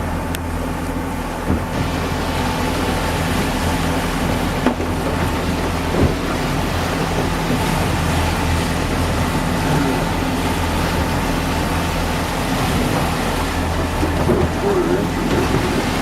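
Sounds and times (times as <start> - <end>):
boat engine humming: 0.0 - 16.0
wind and water rushing: 0.0 - 16.0.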